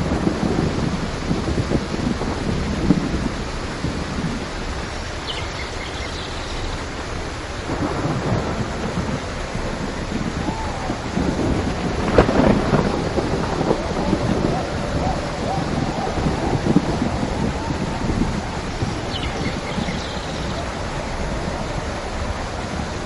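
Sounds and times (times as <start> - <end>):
heavy rain: 0.0 - 23.0
low rumbling thunder: 0.0 - 23.0.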